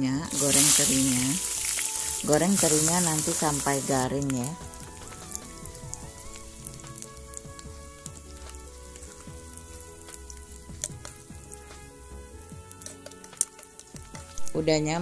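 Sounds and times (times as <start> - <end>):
fish sizzling in hot oil: 0.1 - 15.0.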